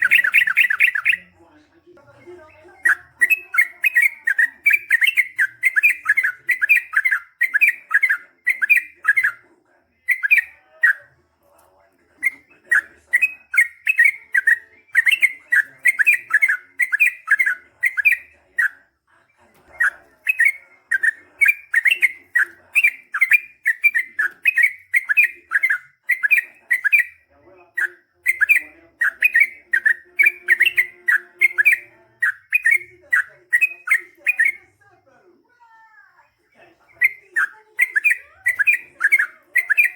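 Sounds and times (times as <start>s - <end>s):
bulbul chirping song: 0.0s - 1.3s, 2.7s - 11.0s, 12.2s - 18.8s, 19.6s - 34.7s, 36.9s - 39.9s.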